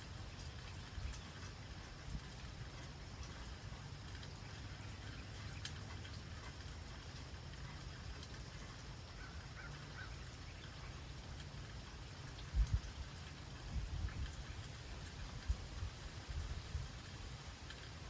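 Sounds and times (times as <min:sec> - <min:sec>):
rain falling: 0:00.0 - 0:18.0
drops ticking: 0:00.1 - 0:14.8.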